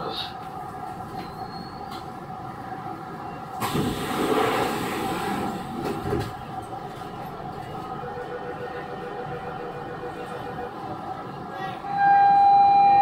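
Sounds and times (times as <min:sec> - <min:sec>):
train motor rumble and whine: 0:00.0 - 0:13.0.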